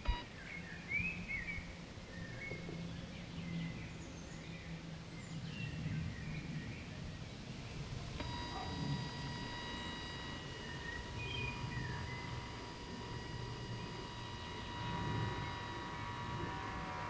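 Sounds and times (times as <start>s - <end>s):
faint low hum: 0.0s - 17.0s
songbirds chirping and warbling: 0.0s - 17.0s.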